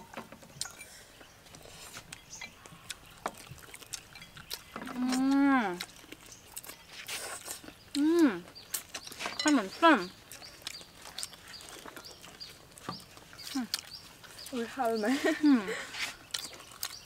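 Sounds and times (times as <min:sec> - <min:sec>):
crunches and clicks of eating: 0:00.3 - 0:17.0.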